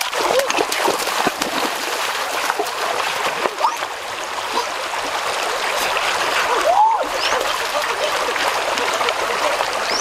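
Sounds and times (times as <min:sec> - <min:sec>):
feet splashing through water: 0:00.0 - 0:10.0
river water running over stones: 0:00.0 - 0:10.0.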